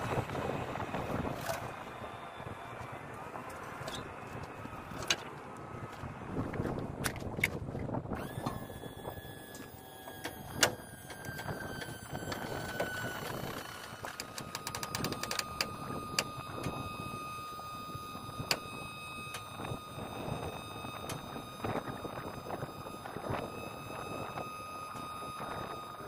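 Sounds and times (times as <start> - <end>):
steady high whine: 0.0 - 26.0.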